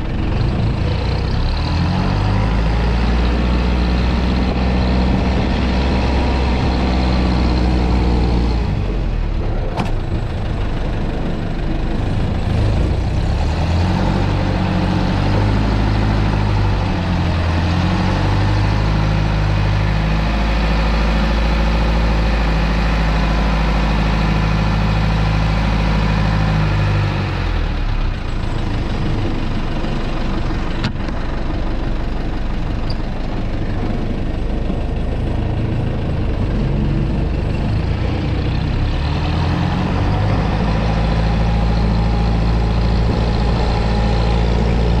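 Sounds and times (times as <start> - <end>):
diesel truck engine droning: 0.0 - 45.0.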